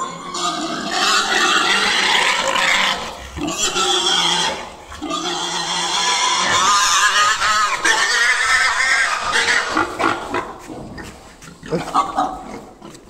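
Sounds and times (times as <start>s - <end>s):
pigs squealing: 0.0s - 13.0s.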